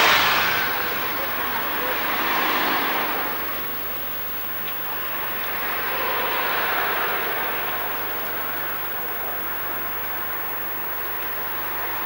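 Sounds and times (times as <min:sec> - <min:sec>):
car tyres hissing on wet road: 0:00.0 - 0:10.3.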